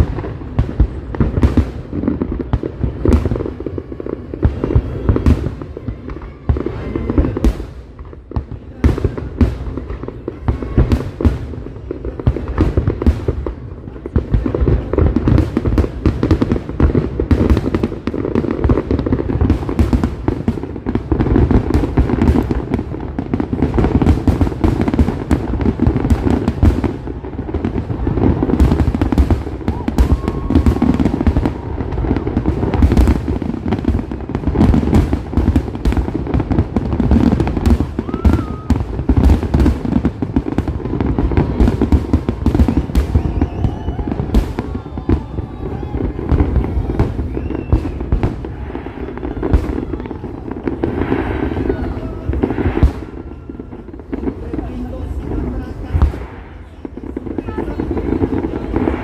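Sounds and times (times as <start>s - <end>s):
deep rolling fireworks booms: 0.0s - 59.0s
fireworks cracking: 0.0s - 59.0s.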